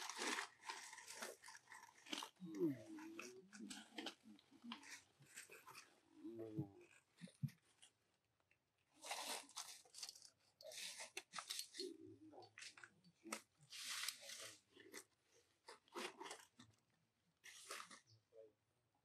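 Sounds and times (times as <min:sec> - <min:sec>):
crunching and rustling: 0:00.0 - 0:08.0, 0:08.9 - 0:16.8, 0:17.4 - 0:18.1.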